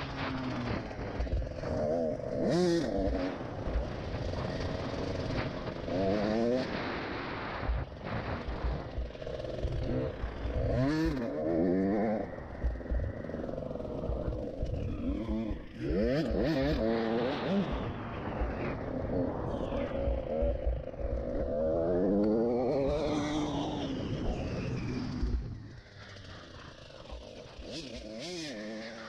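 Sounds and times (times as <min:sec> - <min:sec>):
motocross bike engine revving: 0:00.0 - 0:19.3, 0:19.9 - 0:23.9, 0:26.0 - 0:29.0.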